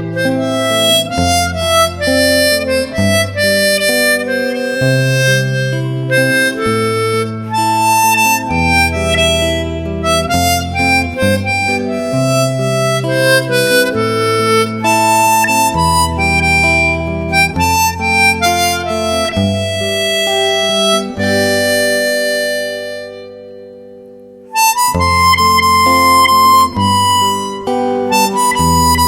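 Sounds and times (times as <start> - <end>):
bass notes: 0.0 - 23.7, 24.5 - 29.0
harmonica melody: 0.0 - 29.0.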